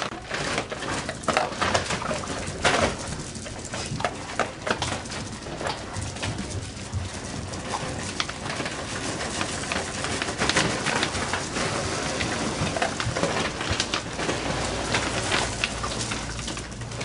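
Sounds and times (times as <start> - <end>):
dry kibble pouring into plastic bin: 0.0 - 17.0.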